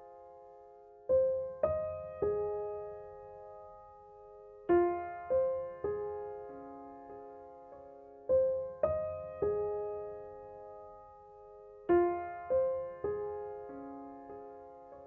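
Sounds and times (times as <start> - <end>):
slow sparse piano notes: 0.0 - 15.0.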